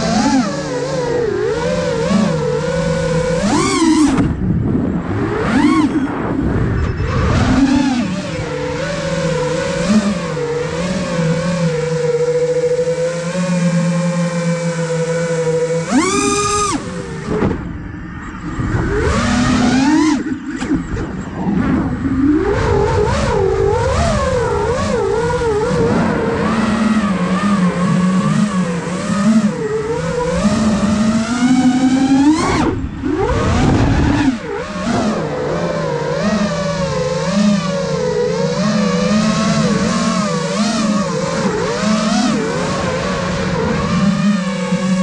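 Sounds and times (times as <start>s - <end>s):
drone motors and propellers whining: 0.0s - 45.0s.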